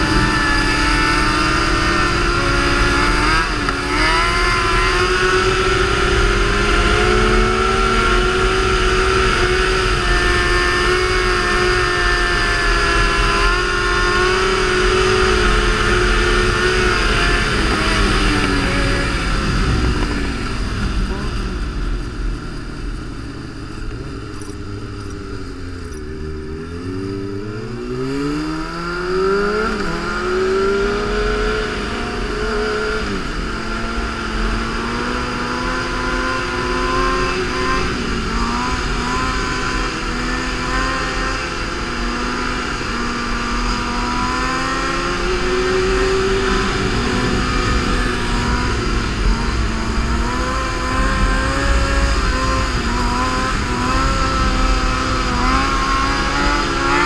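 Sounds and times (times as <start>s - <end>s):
constant low rumble: 0.0s - 57.0s
motorcycle engine accelerating: 0.0s - 57.0s.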